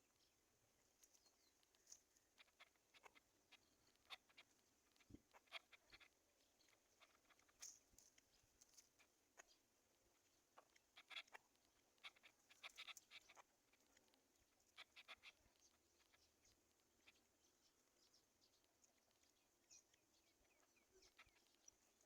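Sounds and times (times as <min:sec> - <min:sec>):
faint rustles: 0:00.0 - 0:22.0.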